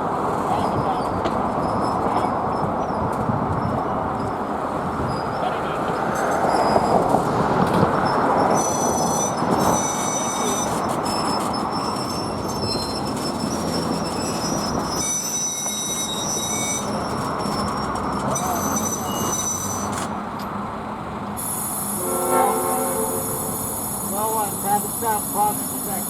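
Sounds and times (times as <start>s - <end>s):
train wheels rumbling on rails: 0.0s - 26.0s
high-pitched wheel squeal: 0.4s - 20.2s, 21.4s - 26.0s.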